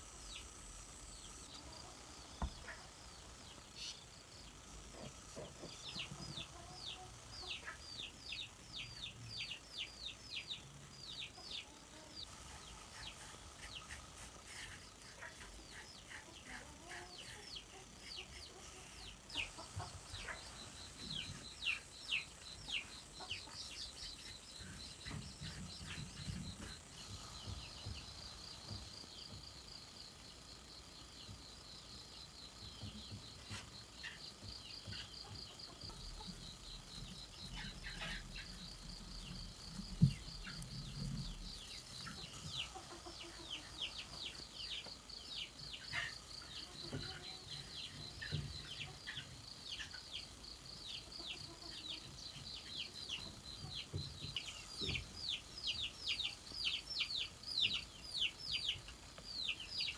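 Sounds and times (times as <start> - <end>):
chicks peeping: 0.0 - 29.6, 30.2 - 59.9
insects whining: 0.0 - 59.9.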